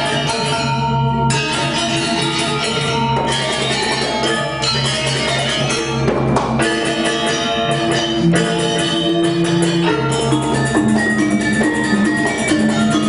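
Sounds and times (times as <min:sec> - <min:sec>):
metallophones ringing: 0:00.0 - 0:13.0.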